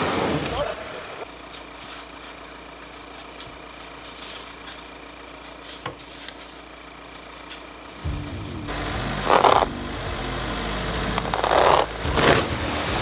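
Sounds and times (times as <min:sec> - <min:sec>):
vehicle engine idling: 0:00.1 - 0:13.0.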